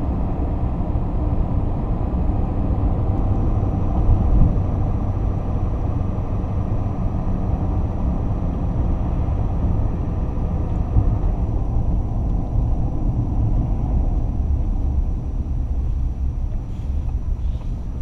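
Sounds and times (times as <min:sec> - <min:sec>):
truck engine and tyre rumble: 0:00.0 - 0:18.0.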